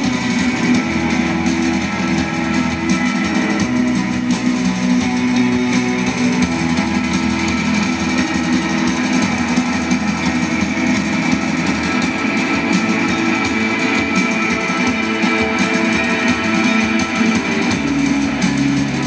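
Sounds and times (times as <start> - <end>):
bass line: 0.0 - 19.0
electric guitars sustaining chords: 0.0 - 19.0
post-rock band playing live: 0.0 - 19.0.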